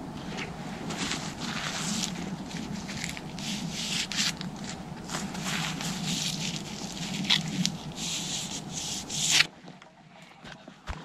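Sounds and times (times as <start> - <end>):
rustling on dry leaves: 0.2 - 9.5.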